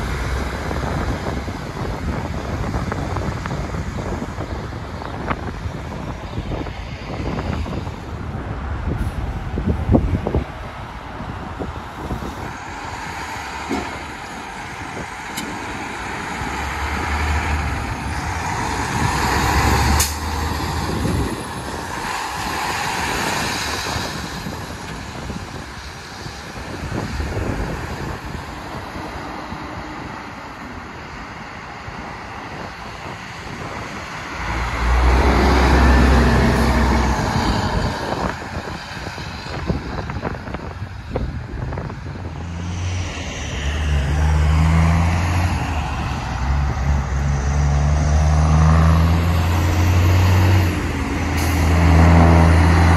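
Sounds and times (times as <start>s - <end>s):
passing road traffic: 0.0s - 52.9s
truck diesel engines accelerating: 0.0s - 52.9s.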